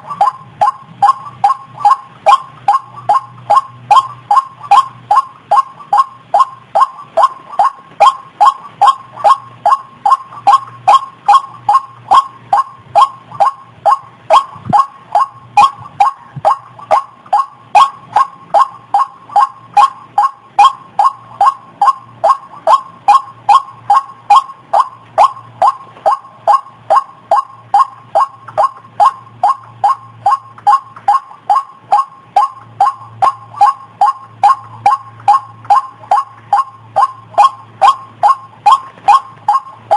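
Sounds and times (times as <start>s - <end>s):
waterhen sharp call notes: 0.0s - 39.9s.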